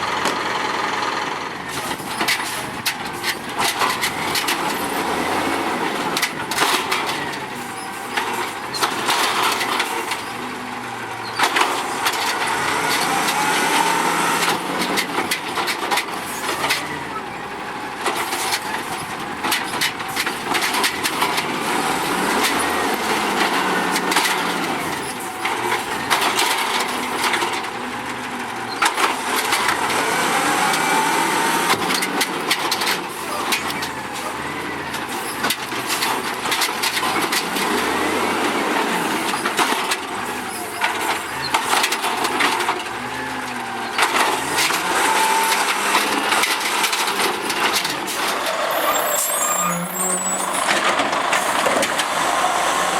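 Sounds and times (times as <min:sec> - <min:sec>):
garbage truck engine and hydraulics: 0:00.0 - 0:52.9.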